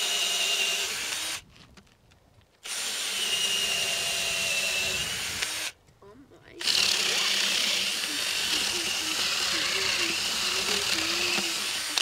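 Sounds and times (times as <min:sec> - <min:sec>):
cordless drill whining into wood: 0:00.0 - 0:01.4, 0:02.6 - 0:05.8, 0:06.6 - 0:12.0.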